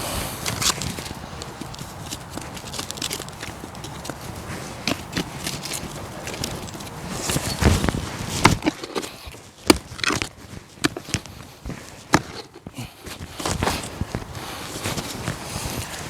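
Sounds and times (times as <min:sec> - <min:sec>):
digging tool scraping stony soil: 0:00.0 - 0:16.0.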